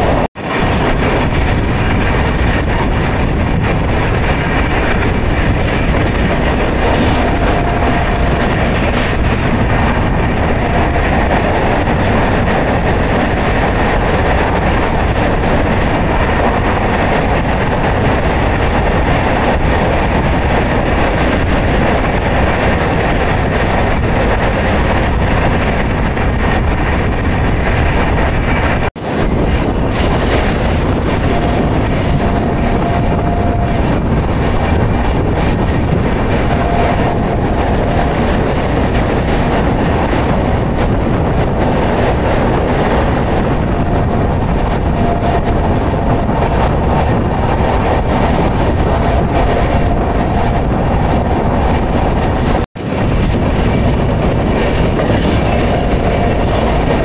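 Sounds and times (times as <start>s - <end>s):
passenger train rumbling: 0.0s - 57.0s.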